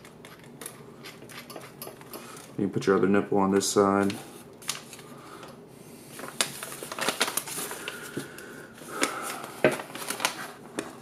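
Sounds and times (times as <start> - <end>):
crinkling handling noise: 0.0 - 11.0.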